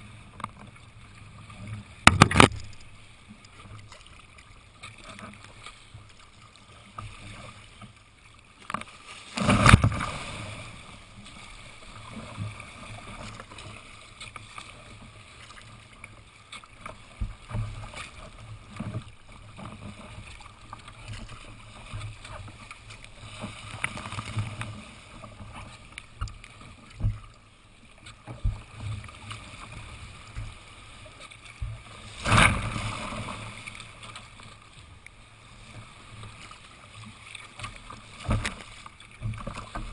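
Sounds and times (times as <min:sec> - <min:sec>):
water splashing against kayak: 0:00.0 - 0:39.9.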